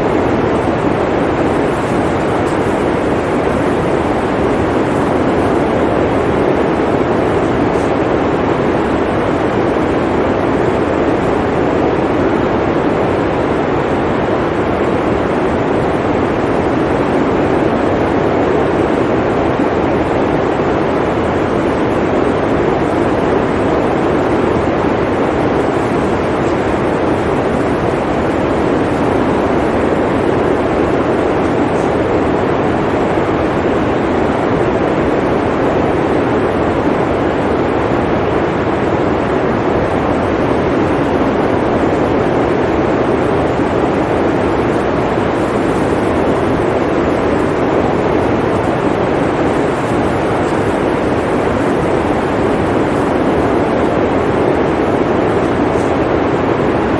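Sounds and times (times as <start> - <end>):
blizzard wind blowing: 0.0 - 56.9.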